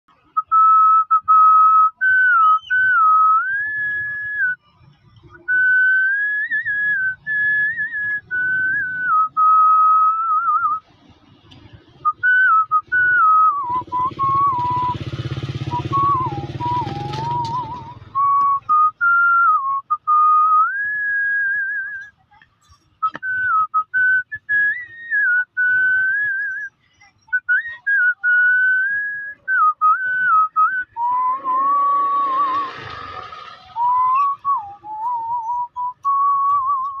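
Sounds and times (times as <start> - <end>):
man whistling a tune: 0.4 - 4.6, 5.4 - 10.8, 12.0 - 22.1, 23.0 - 32.7, 33.8 - 37.0.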